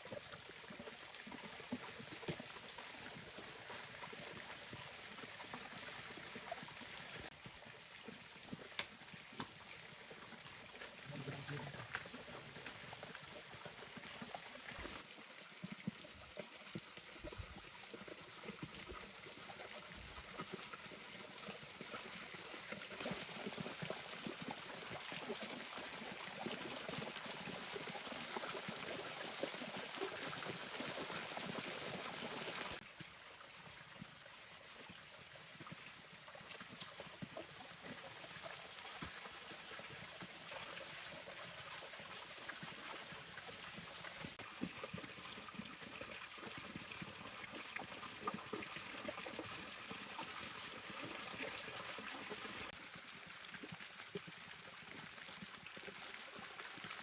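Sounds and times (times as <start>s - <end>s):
water trickling and gurgling: 0.0s - 57.0s.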